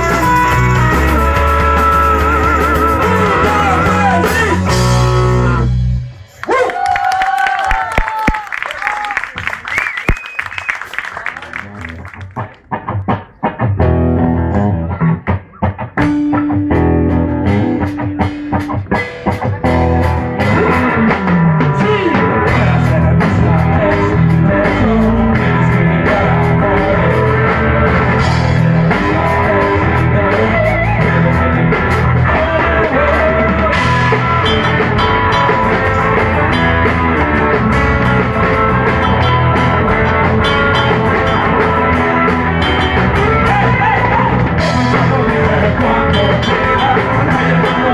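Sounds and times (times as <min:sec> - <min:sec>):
rock band playing: 0:00.0 - 0:08.3, 0:10.4 - 0:47.9.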